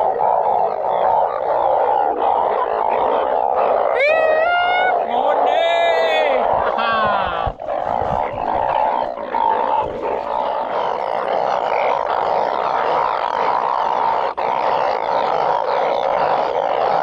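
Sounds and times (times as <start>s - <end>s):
chorus of frogs calling: 0.0s - 17.0s.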